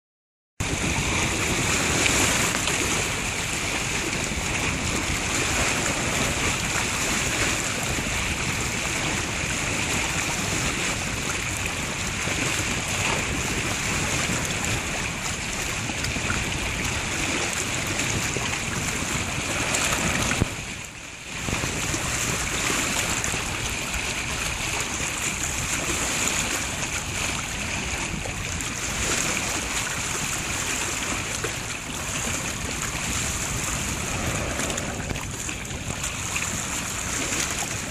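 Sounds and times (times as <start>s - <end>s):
water noise: 0.6s - 37.9s
wind: 0.6s - 37.9s.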